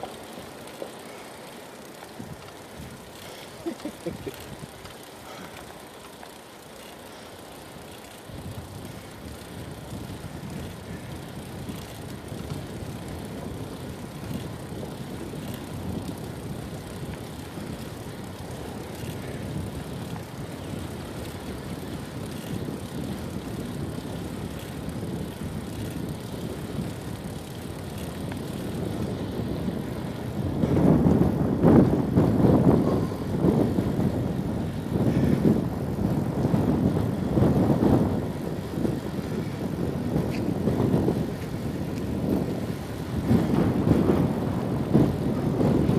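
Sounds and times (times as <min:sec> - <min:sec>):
wind rumbling on microphone: 0:00.0 - 0:06.4, 0:07.0 - 0:45.9
bicycle riding noise: 0:00.0 - 0:45.9.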